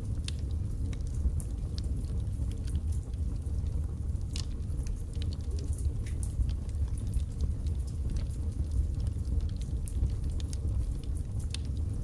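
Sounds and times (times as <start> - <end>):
fire rumbling: 0.0 - 12.0
logs crackling and popping: 0.0 - 12.0.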